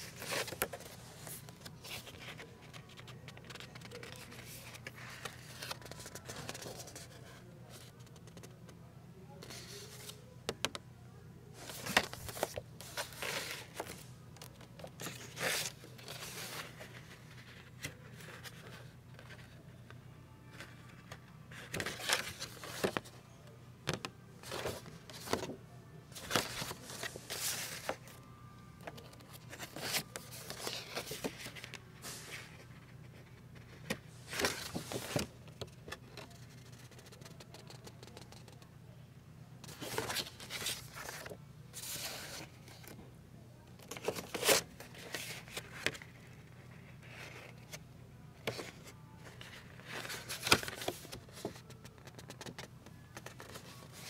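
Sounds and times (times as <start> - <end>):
paper cards scraping and rustling: 0.0 - 8.5, 11.6 - 19.6, 20.6 - 23.1, 23.9 - 25.5, 26.1 - 28.2, 28.8 - 38.5, 39.7 - 43.0, 43.9 - 47.8, 48.4 - 54.0.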